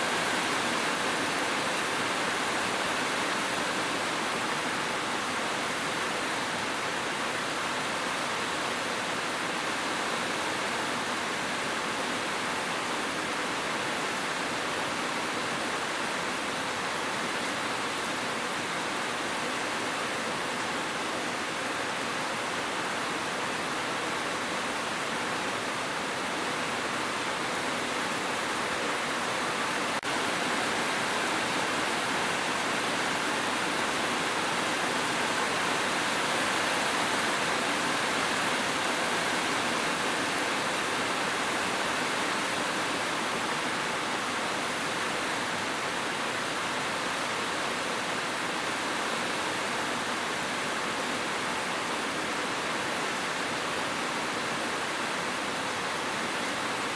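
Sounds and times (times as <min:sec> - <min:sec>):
rushing water hiss: 0:00.0 - 0:56.9.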